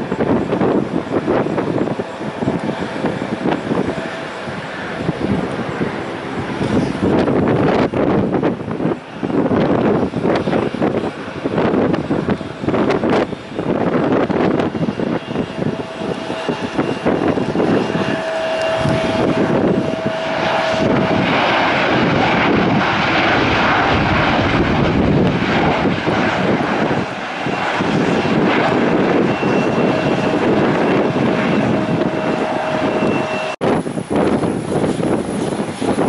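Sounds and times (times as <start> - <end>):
airplane engines roaring: 0.0 - 36.0.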